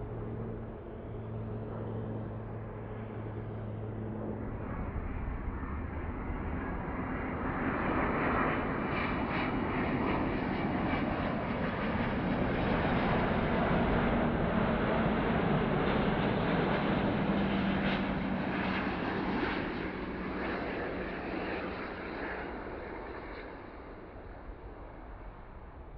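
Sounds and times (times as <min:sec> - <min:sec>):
jet airliner approaching: 0:00.0 - 0:25.9
jet engines low hum: 0:00.0 - 0:25.9.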